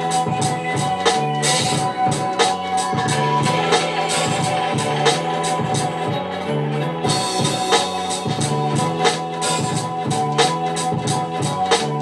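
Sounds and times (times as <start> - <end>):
beat with drum pattern: 0.0 - 12.0.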